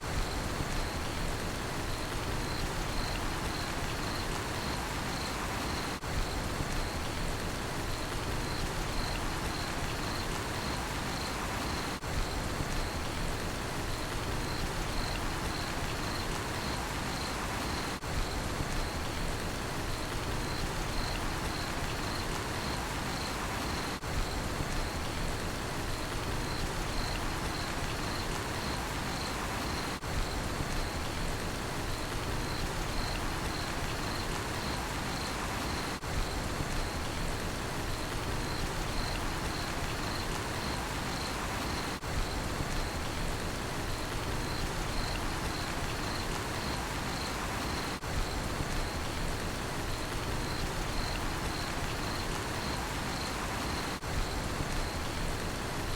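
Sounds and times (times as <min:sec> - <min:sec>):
rain falling: 0:00.0 - 0:55.9
cricket chirping: 0:01.8 - 0:07.2, 0:07.9 - 0:13.2, 0:13.8 - 0:19.2, 0:19.8 - 0:25.2, 0:26.0 - 0:31.2, 0:31.8 - 0:37.3, 0:37.9 - 0:55.3.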